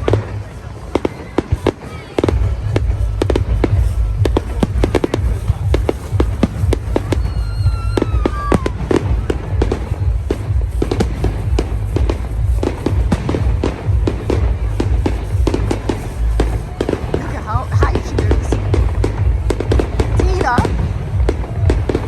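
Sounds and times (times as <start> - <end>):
fireworks crackling and popping: 0.0 - 22.0
low booming rumble: 2.2 - 22.0.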